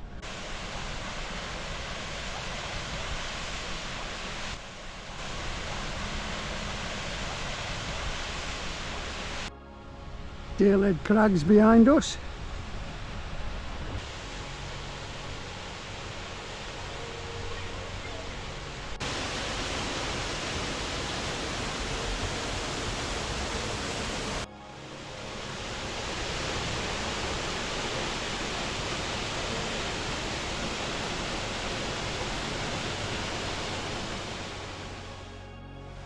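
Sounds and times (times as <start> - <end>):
waterfall rushing: 0.0 - 9.5, 10.3 - 36.0.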